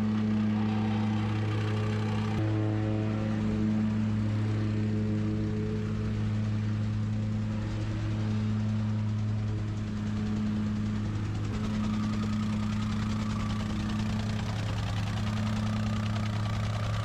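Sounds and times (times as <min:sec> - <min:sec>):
machine engine idling: 0:00.0 - 0:17.0.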